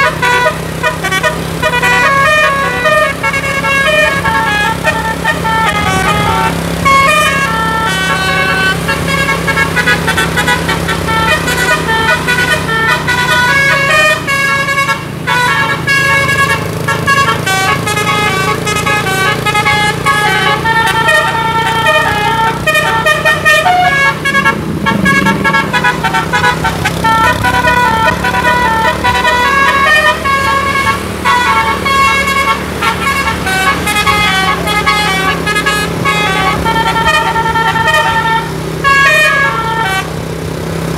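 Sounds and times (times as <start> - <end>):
musical air horn melody: 0.0 - 40.2.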